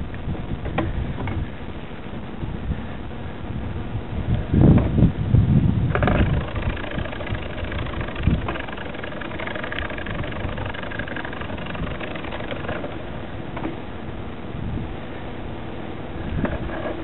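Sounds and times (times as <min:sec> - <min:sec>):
bike tyres rolling on tarmac: 0:00.0 - 0:17.0
wind buffeting microphone: 0:00.0 - 0:17.0.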